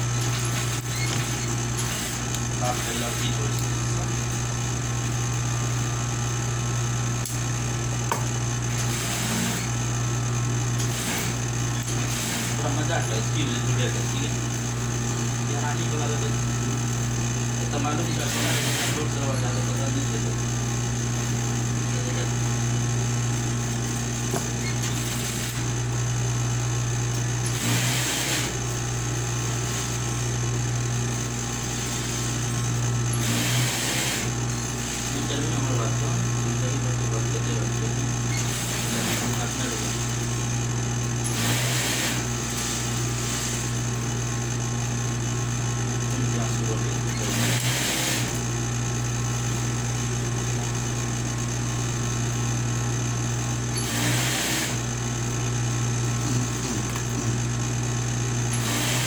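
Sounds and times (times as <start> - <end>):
machine humming with pulsing: 0.0 - 59.0.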